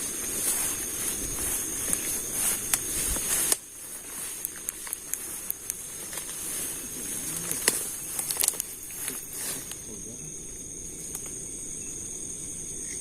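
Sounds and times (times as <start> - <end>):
footsteps rustling through brush: 0.0 - 11.6
crickets trilling: 0.0 - 13.0.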